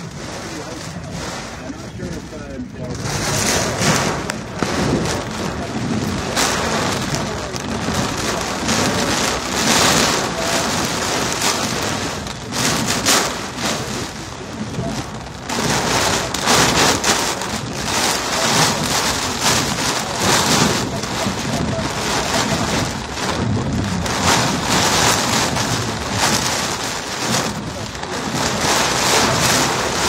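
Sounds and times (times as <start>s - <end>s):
heavy rain pounding on a car: 0.0s - 30.0s.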